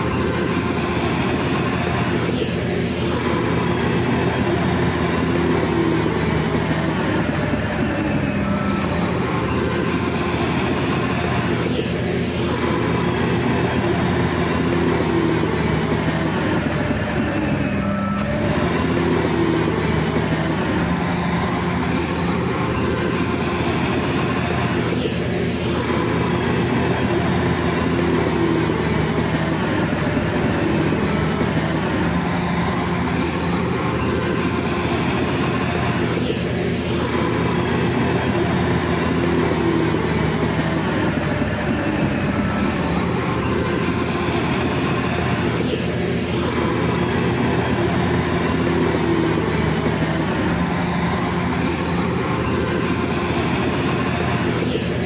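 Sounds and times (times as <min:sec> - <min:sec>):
heavy engine rumbling: 0:00.0 - 0:55.0.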